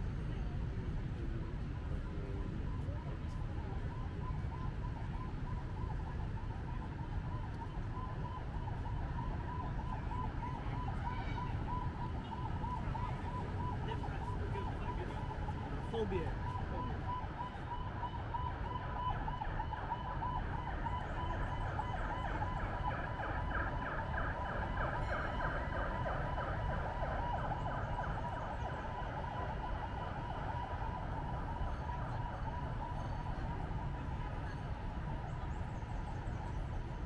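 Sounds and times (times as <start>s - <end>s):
low traffic rumble: 0.0s - 37.0s.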